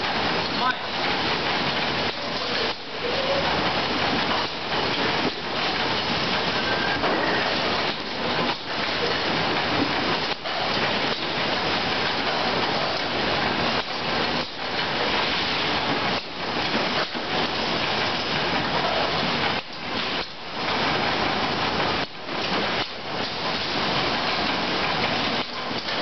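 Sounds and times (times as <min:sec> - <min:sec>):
conveyor rollers and belts clattering: 0:00.0 - 0:26.0.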